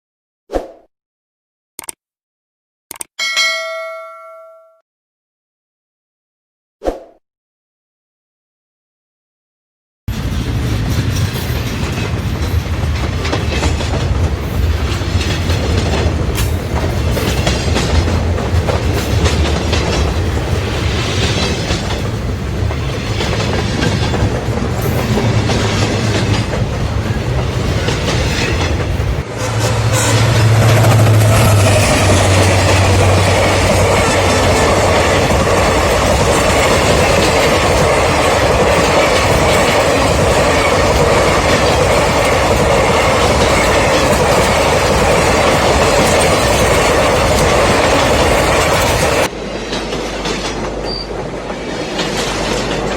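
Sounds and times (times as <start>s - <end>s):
train rumbling on rails: 10.1s - 52.9s
wheels clickety-clack over rail joints: 10.1s - 52.9s.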